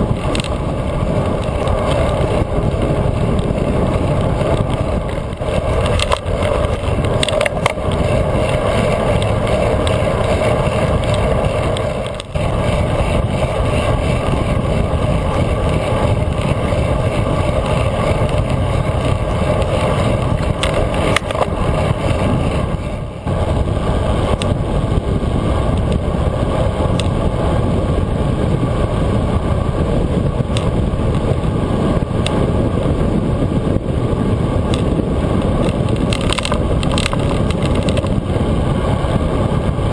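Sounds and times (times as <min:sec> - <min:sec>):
tyres running on asphalt: 0:00.0 - 0:39.9
wind buffeting microphone: 0:00.0 - 0:39.9.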